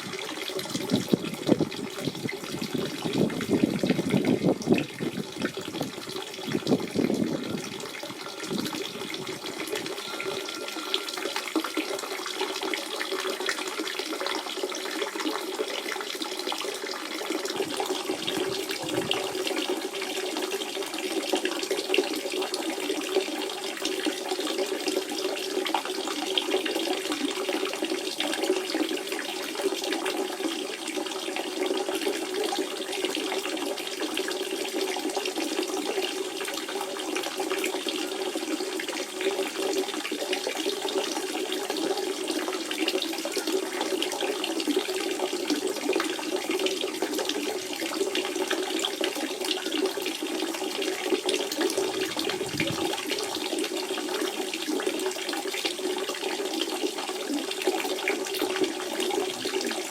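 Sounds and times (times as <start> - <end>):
spring water running and splashing: 0.0 - 30.6, 31.4 - 59.9.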